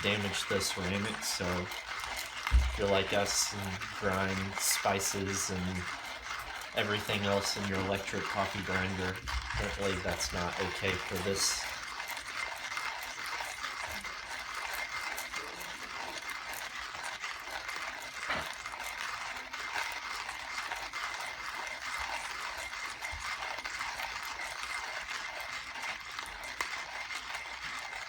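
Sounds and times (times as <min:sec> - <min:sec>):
manual coffee grinder cranking beans: 0:00.0 - 0:28.0.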